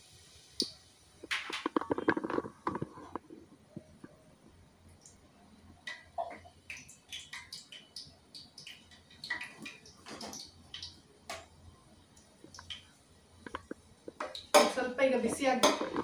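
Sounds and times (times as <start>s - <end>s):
spices frying in hot oil: 0.0s - 3.3s, 5.0s - 16.0s.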